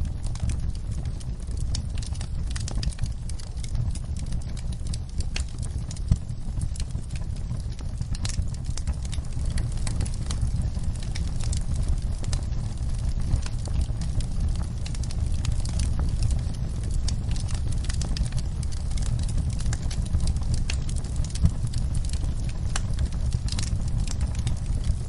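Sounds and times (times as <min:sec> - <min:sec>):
fire crackling in fireplace: 0:00.0 - 0:25.0
low rumble of flames: 0:00.0 - 0:25.0.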